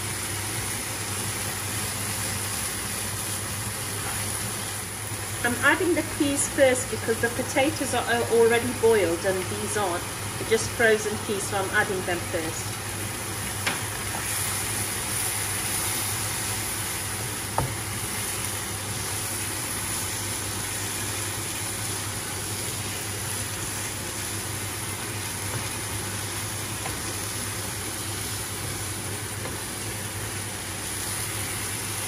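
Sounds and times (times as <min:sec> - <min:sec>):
meat sizzling in a frying pan: 0:00.0 - 0:32.0.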